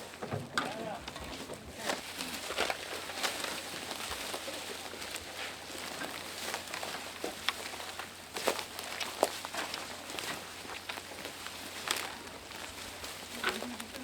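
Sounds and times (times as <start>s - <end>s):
branches snapping and rustling: 0.0s - 14.0s.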